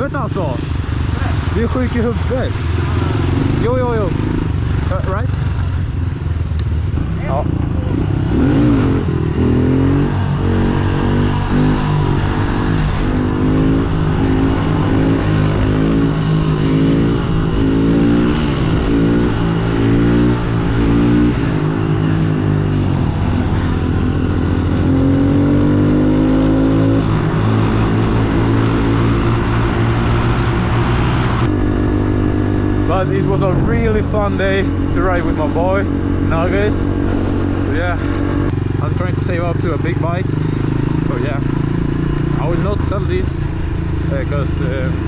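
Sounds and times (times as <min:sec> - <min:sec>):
pit bike engine revving: 0:00.0 - 0:45.0.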